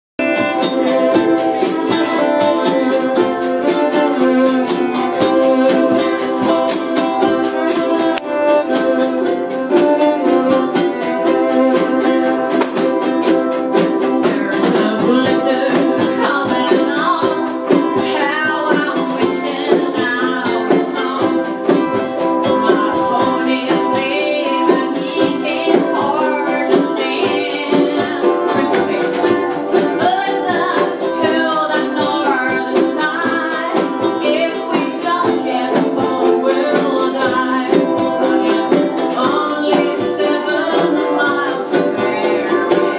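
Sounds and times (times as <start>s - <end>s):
strummed acoustic string instruments: 0.2s - 42.9s
voices singing: 0.2s - 42.9s.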